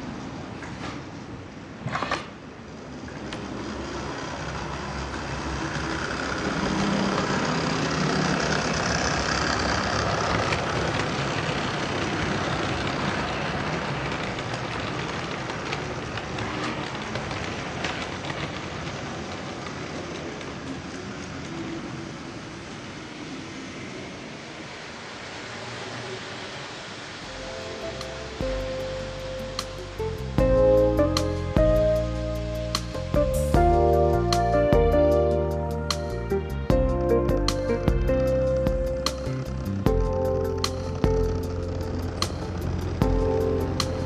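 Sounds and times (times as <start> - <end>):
model train rolling rumble: 0.0 - 35.8, 36.4 - 44.0.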